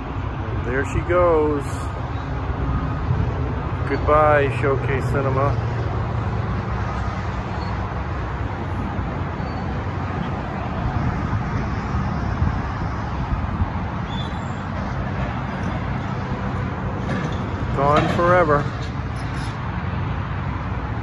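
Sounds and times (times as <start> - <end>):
distant engines rumbling: 0.0 - 21.0.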